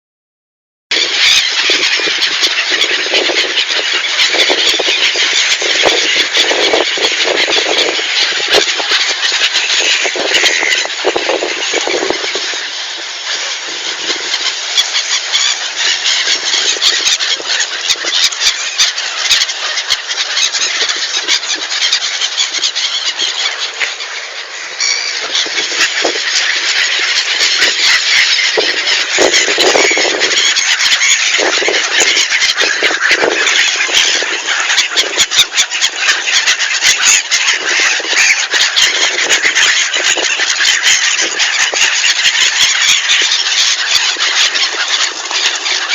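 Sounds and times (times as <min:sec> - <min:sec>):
flock of birds chirping: 0:00.9 - 0:45.9.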